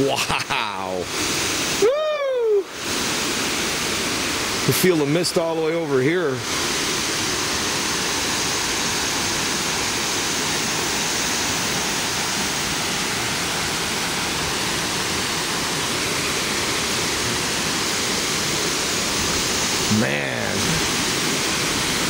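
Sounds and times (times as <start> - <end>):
waterfall pouring into pool: 0.0 - 22.0.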